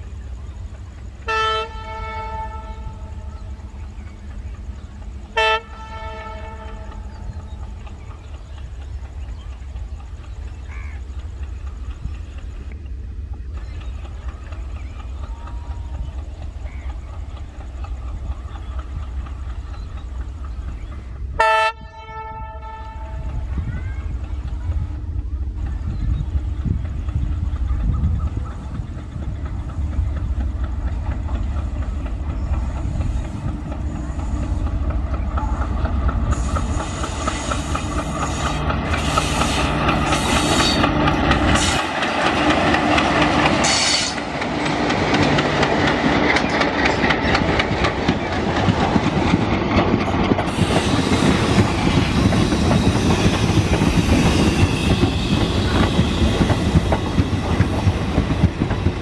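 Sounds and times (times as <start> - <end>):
diesel locomotive engine rumbling: 0.0 - 59.0
train wheels clattering over rail joints: 3.2 - 21.2, 23.2 - 59.0.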